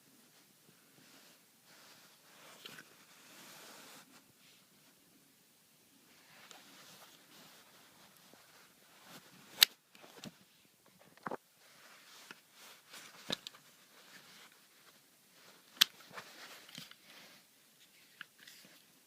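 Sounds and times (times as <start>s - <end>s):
soft rustling: 0.1s - 5.3s, 5.9s - 19.0s.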